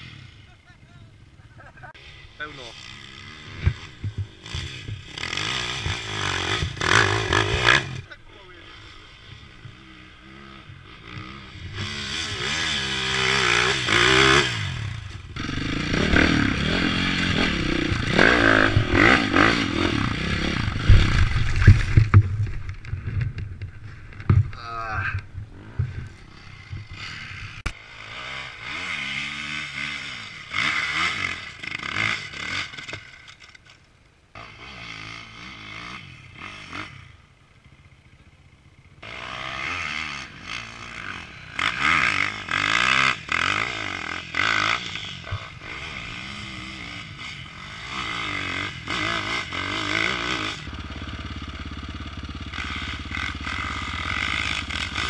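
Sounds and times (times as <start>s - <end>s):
dirt bike engine revving: 0.0s - 33.5s, 34.3s - 55.0s.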